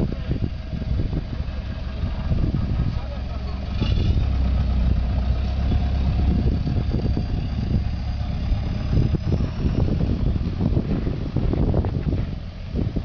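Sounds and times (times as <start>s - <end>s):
low bumps and rumbles: 0.0s - 13.0s
vehicle engine droning: 0.0s - 13.0s.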